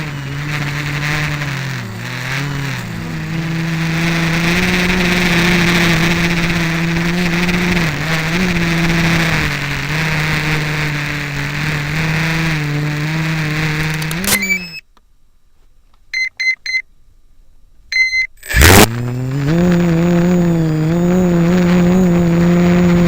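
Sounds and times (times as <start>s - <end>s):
quadcopter motors humming: 0.0s - 14.8s, 18.4s - 23.0s.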